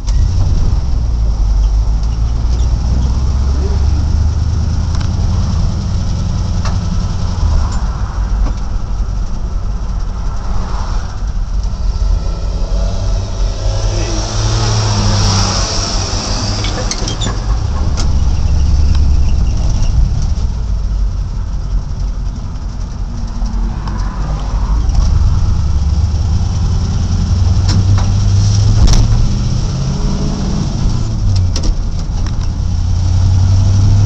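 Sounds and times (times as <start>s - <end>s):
truck engine droning: 0.0s - 34.0s.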